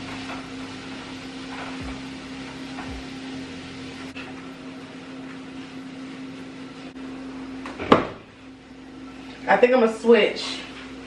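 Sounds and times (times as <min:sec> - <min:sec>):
steak sizzling in a frying pan: 0:00.0 - 0:09.6
steady low hum: 0:00.0 - 0:11.0.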